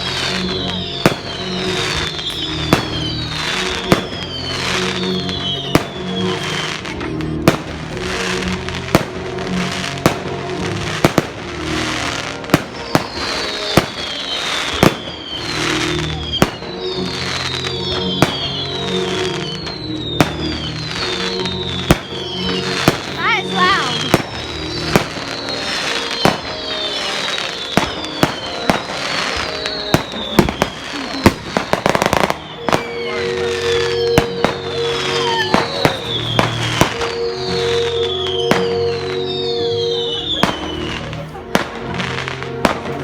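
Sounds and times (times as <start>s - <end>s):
firework whistles falling in pitch: 0.0s - 8.4s, 11.1s - 41.3s
firework bangs: 0.0s - 43.0s
music playing: 0.0s - 43.0s.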